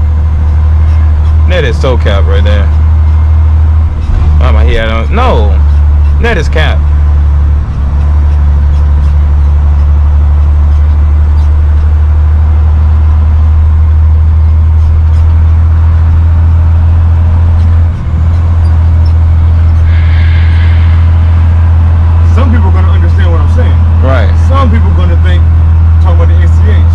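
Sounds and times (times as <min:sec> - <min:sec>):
truck engine and road drone: 0:00.0 - 0:26.9.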